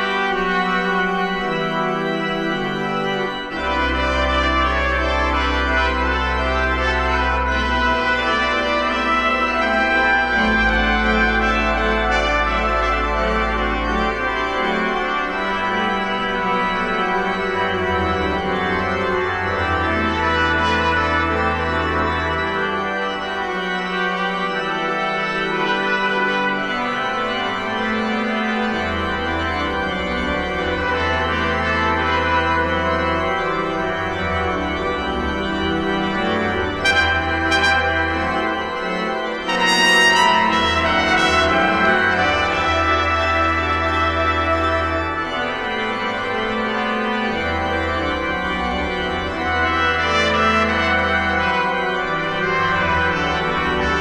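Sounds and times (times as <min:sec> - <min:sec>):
trumpet: 0:00.0 - 0:22.8, 0:23.5 - 0:54.0
deep organ pedal bass notes: 0:00.0 - 0:54.0
organ playing slow chords: 0:00.0 - 0:54.0.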